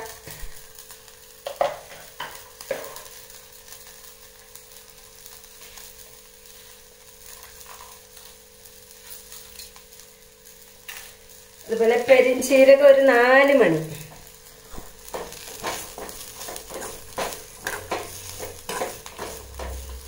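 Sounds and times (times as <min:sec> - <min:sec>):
coconut sizzling in a pan: 0:00.0 - 0:20.0.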